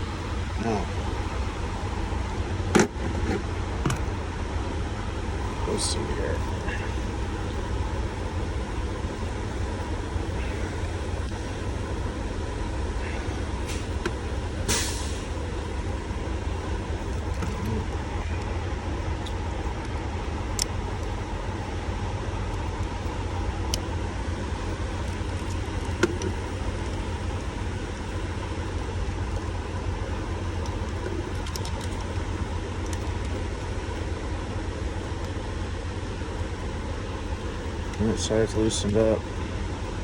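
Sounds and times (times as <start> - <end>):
low rumble and hum: 0.0 - 40.0.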